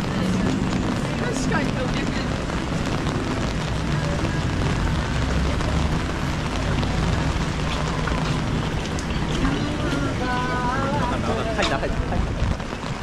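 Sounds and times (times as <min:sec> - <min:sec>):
heavy low rumble: 0:00.0 - 0:13.0
steady rain hiss: 0:00.0 - 0:13.0.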